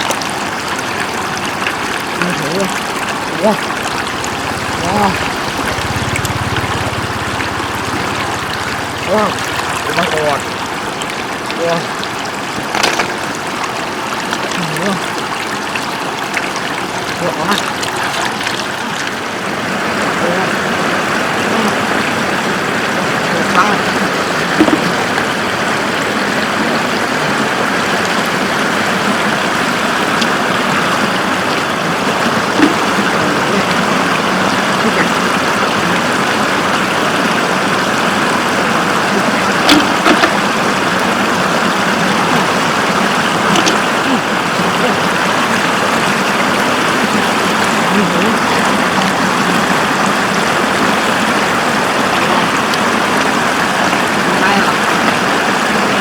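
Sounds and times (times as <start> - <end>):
water rushing over road: 0.0 - 56.0.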